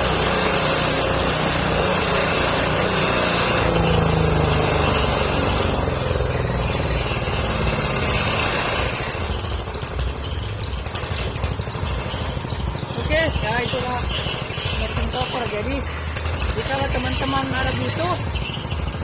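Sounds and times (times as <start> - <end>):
forage chopper running: 0.0 - 19.0.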